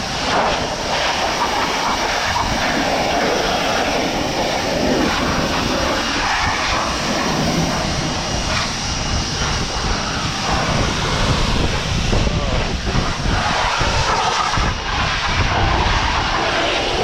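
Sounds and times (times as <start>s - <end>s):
pressure washer spraying car: 0.0s - 17.0s.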